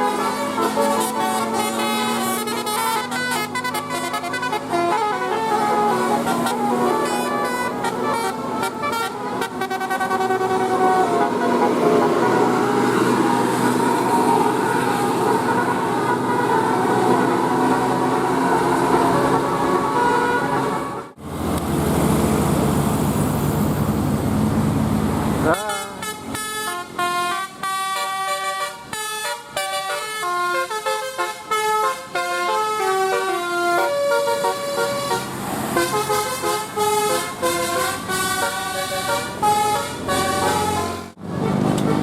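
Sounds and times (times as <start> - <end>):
musical bus horn melody: 0.0 - 21.2, 25.4 - 42.0
bus engine: 0.0 - 42.0
road noise: 0.0 - 42.0.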